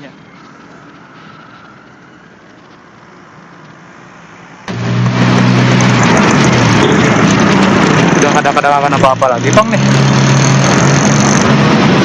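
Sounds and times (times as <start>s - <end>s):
loud vehicle engine humming: 0.0s - 12.0s
street traffic: 0.0s - 12.0s.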